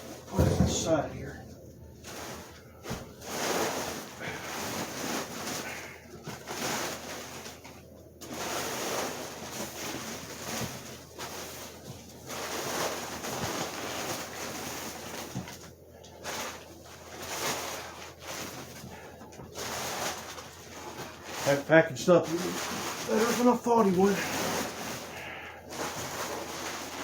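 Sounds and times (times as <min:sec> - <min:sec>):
packing material rustling: 0:00.0 - 0:27.0.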